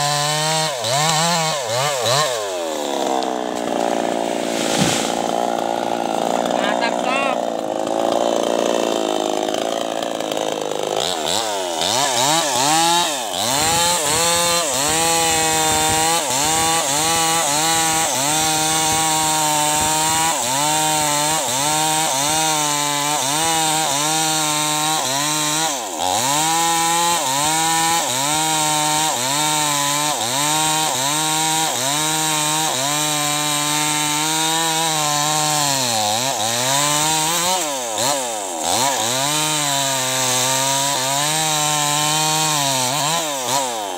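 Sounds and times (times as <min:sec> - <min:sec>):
chainsaw cutting log: 0:00.0 - 0:43.9.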